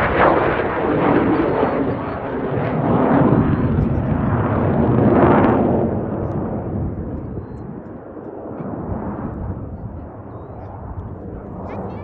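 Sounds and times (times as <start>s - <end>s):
jets roaring overhead: 0.0s - 12.0s.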